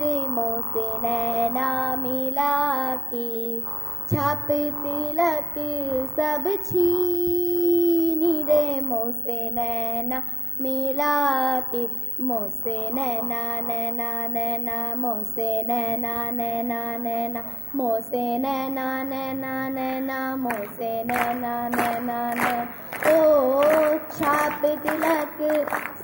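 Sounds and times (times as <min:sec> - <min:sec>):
girl singing into microphone: 0:00.0 - 0:26.0.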